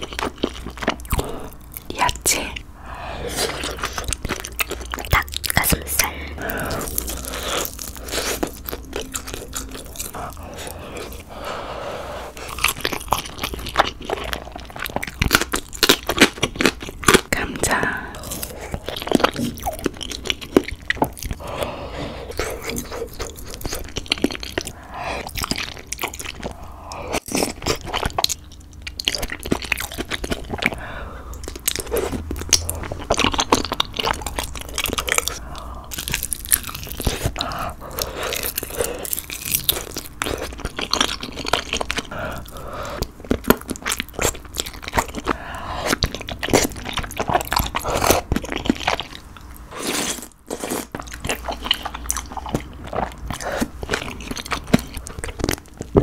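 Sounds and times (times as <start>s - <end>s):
close chewing and mouth smacks: 0.0s - 11.5s, 12.3s - 56.0s.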